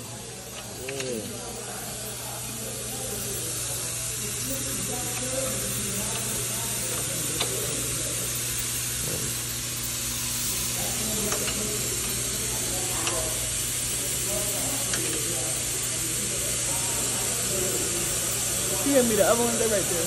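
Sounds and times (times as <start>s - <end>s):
workshop hiss and hum: 0.0s - 20.0s.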